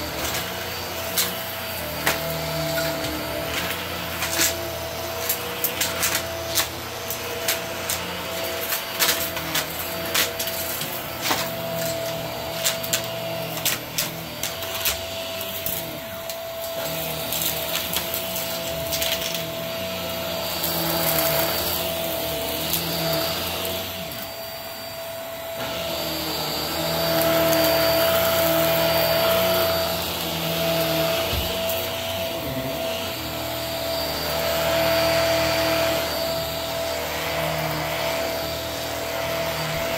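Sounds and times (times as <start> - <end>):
stick vacuum whining: 0.0 - 39.9.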